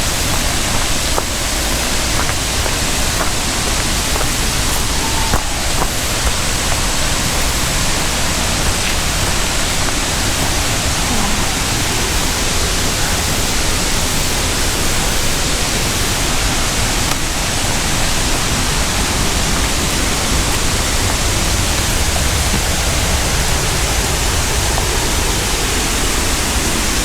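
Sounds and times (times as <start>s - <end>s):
waterfall and rapids rushing: 0.0s - 27.0s.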